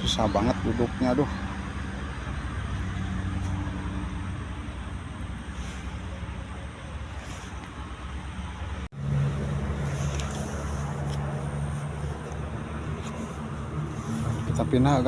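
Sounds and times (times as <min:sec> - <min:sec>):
low engine drone: 0:00.0 - 0:15.0
road traffic noise: 0:00.0 - 0:15.0.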